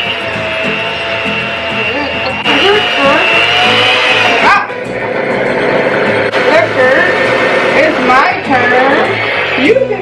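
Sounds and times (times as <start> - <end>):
electric hand mixer whirring: 0.0 - 10.0.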